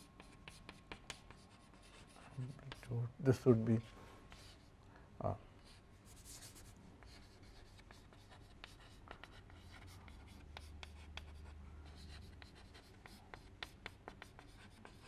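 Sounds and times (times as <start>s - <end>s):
chalk writing on blackboard: 0.0s - 3.0s, 3.8s - 4.7s, 5.6s - 15.0s.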